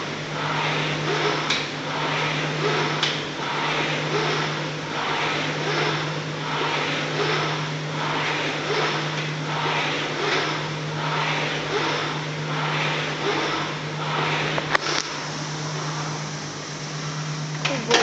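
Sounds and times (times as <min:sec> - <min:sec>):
rowing machine flywheel whooshing: 0:00.0 - 0:18.0
steady low hum: 0:00.0 - 0:18.0.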